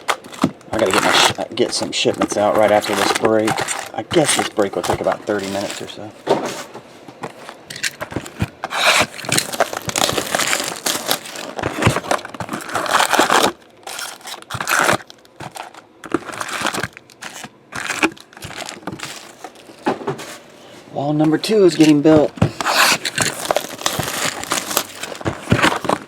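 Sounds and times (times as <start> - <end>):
cardboard crinkling and scraping: 0.0 - 26.0.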